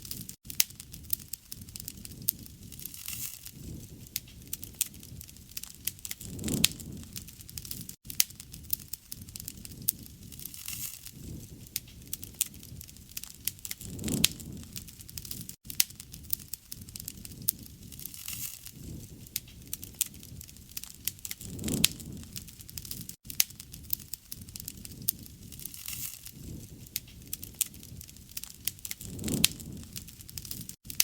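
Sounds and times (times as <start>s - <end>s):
low rush of flames: 0.0s - 30.8s
wood fire crackling and popping: 0.0s - 31.0s.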